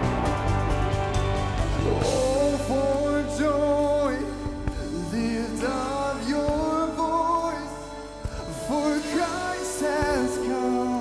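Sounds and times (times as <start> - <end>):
electric guitar: 0.0 - 11.0
person singing: 1.7 - 11.0.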